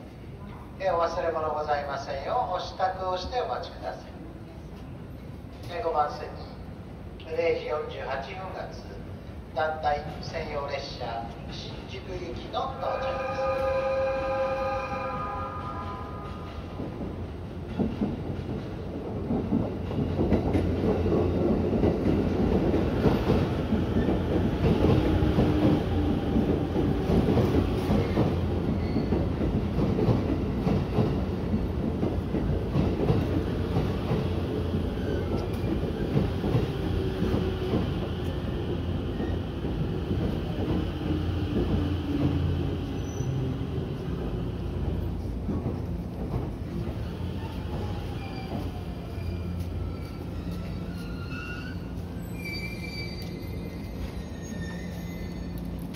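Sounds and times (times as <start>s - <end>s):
faint train whine: 0.0s - 55.9s
train rumble: 0.0s - 55.9s.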